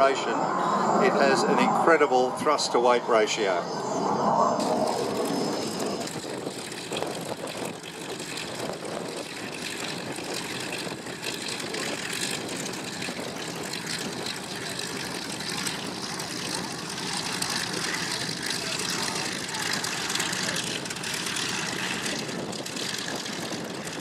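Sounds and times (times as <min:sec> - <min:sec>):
propeller planes idling: 0:00.0 - 0:24.0.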